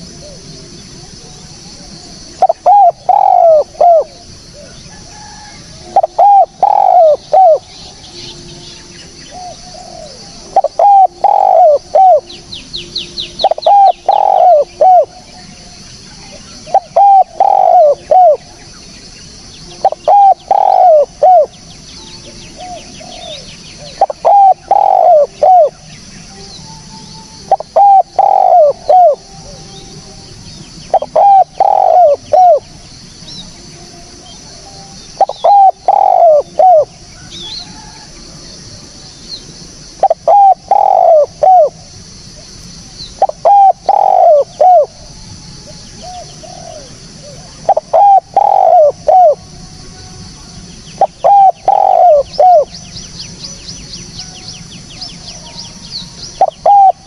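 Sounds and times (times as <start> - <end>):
dove cooing: 0.0 - 18.9, 19.5 - 53.6, 55.0 - 57.0.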